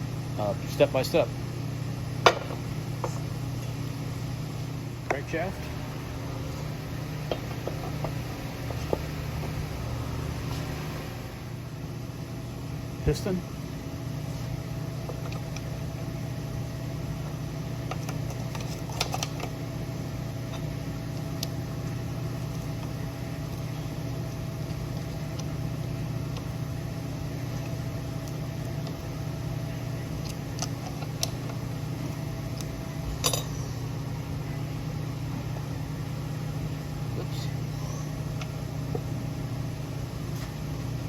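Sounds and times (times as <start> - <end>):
fan humming: 0.0 - 41.0.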